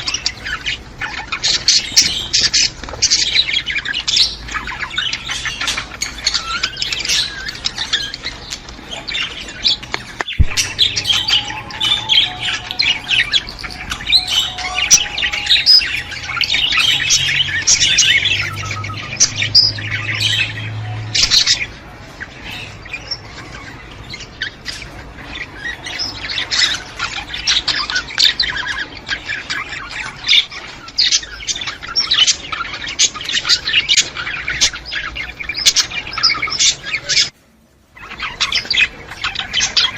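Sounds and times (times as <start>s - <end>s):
budgerigars chattering: 0.0s - 37.3s, 38.0s - 39.9s.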